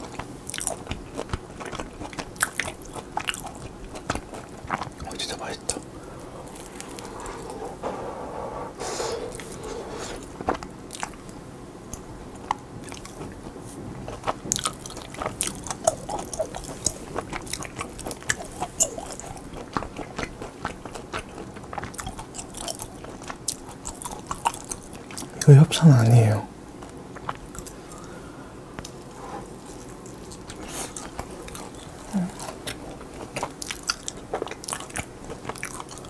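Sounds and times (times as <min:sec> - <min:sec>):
chewing with wet clicks: 0:00.0 - 0:07.6, 0:10.4 - 0:25.5, 0:26.8 - 0:28.2, 0:28.8 - 0:36.0.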